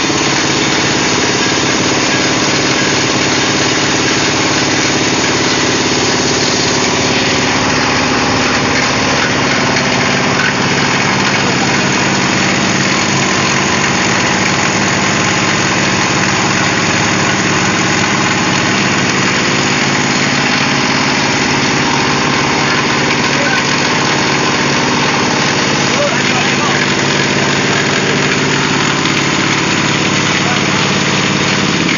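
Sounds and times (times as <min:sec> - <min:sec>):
diesel engine running loudly: 0:00.0 - 0:31.9.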